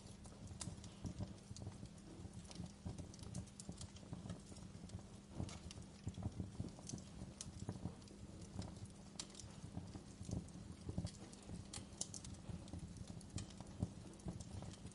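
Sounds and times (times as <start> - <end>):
low rumble of flames: 0.0 - 14.9
wood fire crackling and popping: 0.0 - 14.9.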